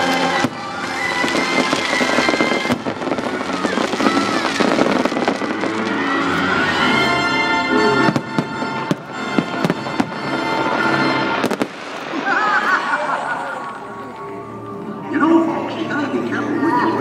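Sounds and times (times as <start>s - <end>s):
fireworks bursting and crackling: 0.0s - 15.1s
music: 0.0s - 17.0s.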